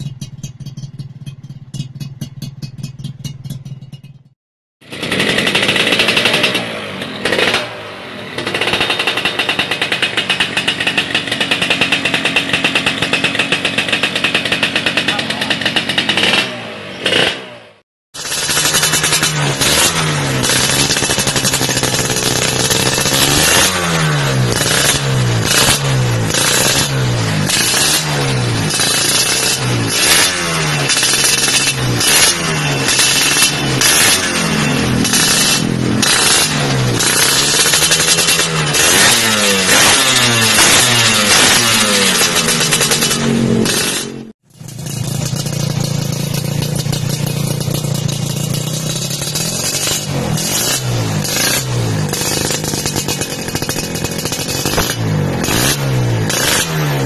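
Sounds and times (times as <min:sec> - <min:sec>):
two-stroke engine revving: 0:04.8 - 0:57.0.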